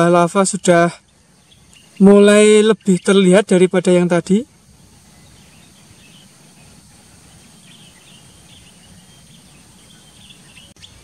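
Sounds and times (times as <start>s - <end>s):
bird chirps: 0.0s - 11.0s
low background rumble: 0.6s - 11.0s.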